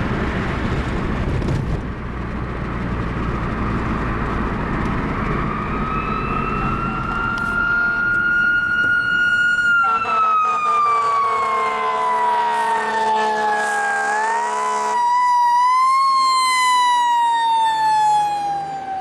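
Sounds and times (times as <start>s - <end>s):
road traffic rumble: 0.0s - 19.0s
fire engine siren wailing: 3.0s - 19.0s.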